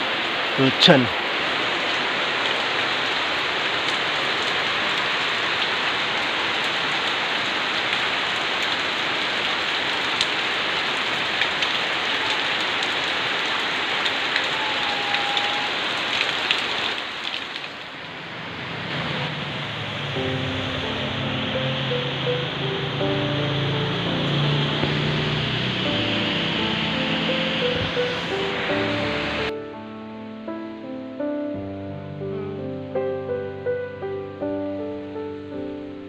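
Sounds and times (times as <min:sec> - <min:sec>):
steady rain falling: 0:00.0 - 0:29.5.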